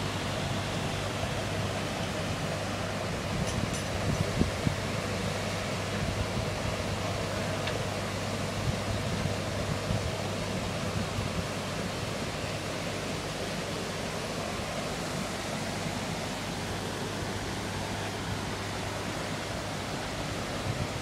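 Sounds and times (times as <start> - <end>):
water rushing through sluices: 0.0 - 21.0.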